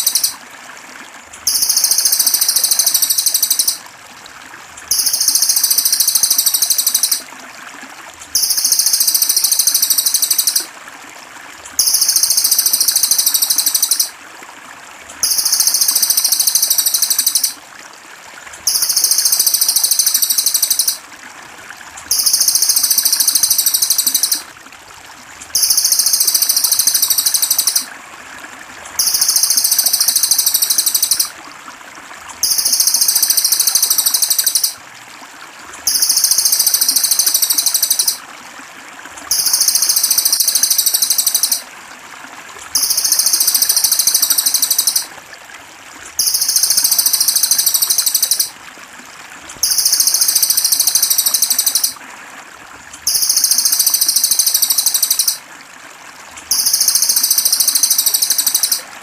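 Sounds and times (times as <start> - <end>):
trickle of water: 0.0 - 59.0.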